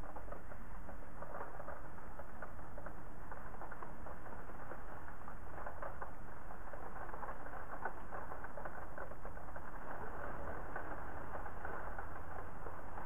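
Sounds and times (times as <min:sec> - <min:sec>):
rain pattering on window: 0:00.0 - 0:13.0.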